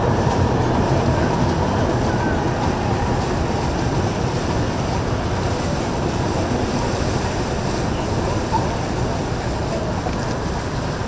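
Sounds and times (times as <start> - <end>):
boat engine: 0.0 - 11.0
moving water: 0.0 - 11.0
wind on microphone: 0.0 - 11.0.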